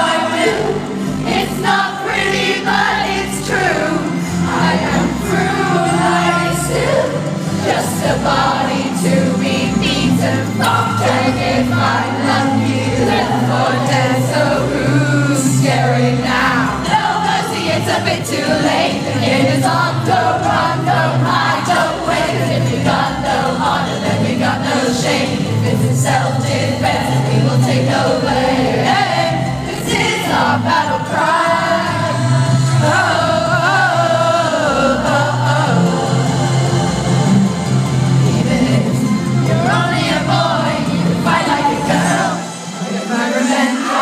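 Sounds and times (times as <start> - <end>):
people singing: 0.0 - 44.0.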